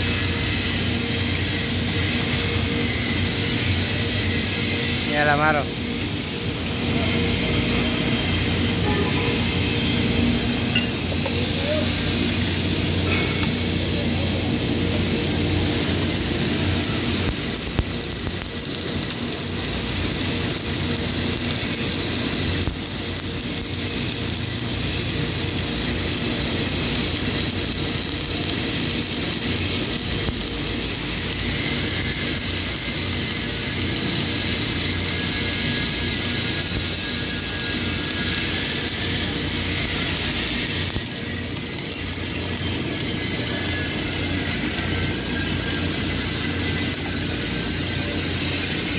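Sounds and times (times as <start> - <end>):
electric arc welding: 0.0 - 48.9.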